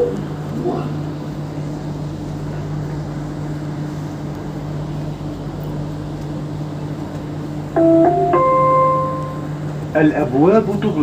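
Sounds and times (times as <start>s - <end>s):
train electrical hum: 0.0s - 11.0s.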